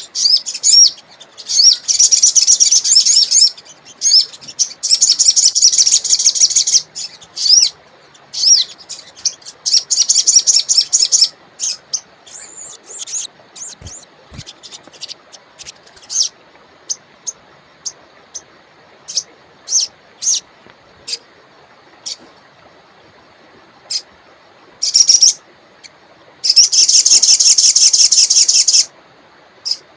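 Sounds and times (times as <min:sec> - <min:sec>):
songbird singing: 0:00.0 - 0:22.6, 0:23.2 - 0:28.9.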